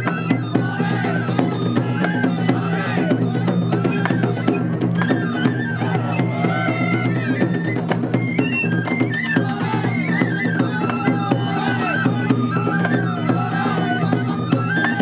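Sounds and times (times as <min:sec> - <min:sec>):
bamboo flute melody: 0:00.0 - 0:15.0
rapid taiko drum strikes: 0:00.0 - 0:15.0.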